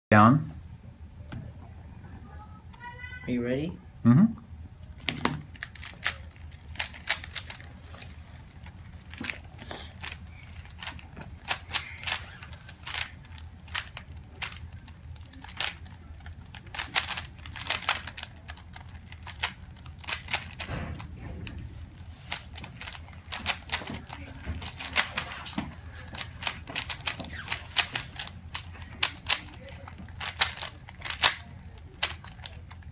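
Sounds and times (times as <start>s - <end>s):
puzzle cube plastic clicks: 5.0s - 7.7s, 8.4s - 21.7s, 22.3s - 32.9s.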